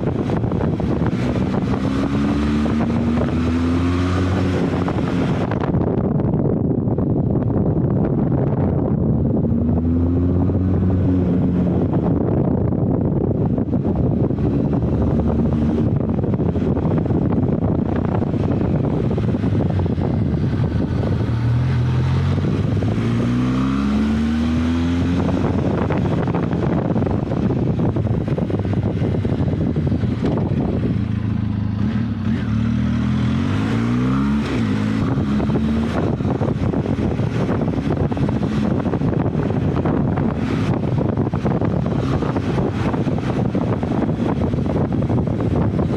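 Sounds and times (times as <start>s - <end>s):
motorcycle engine accelerating: 0.0s - 45.9s
wind rush on microphone: 0.0s - 45.9s.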